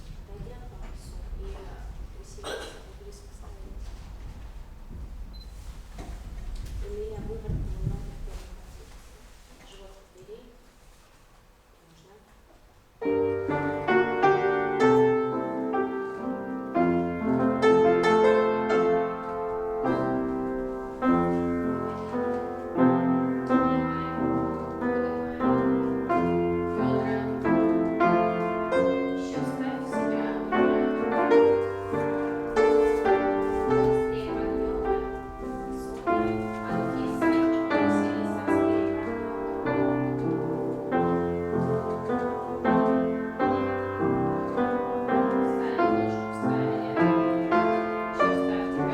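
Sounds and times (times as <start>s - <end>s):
classical piano accompaniment: 0.0s - 10.1s, 12.6s - 48.9s.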